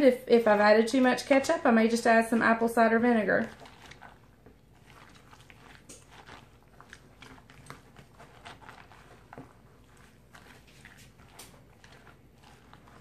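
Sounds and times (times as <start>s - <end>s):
spatula stirring wet slaw: 0.4s - 13.0s.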